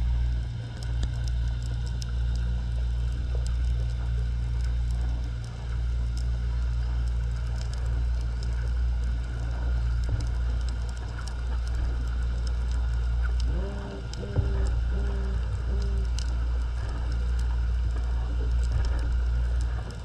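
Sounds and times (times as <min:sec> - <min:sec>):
crackle of small clicks: 0:00.0 - 0:20.0
low pitched hum rising: 0:00.0 - 0:20.0
underwater low rumble: 0:00.0 - 0:20.0.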